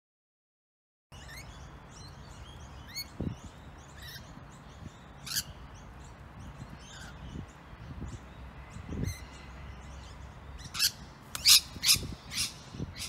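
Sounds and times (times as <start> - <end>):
lorikeets chirping: 1.1 - 13.0.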